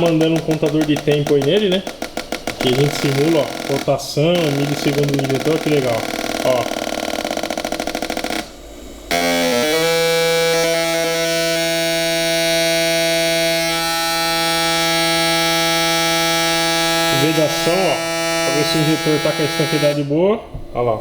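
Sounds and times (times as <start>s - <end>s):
fuel injectors buzzing: 0.0s - 20.2s
steady electric drone: 0.0s - 21.0s.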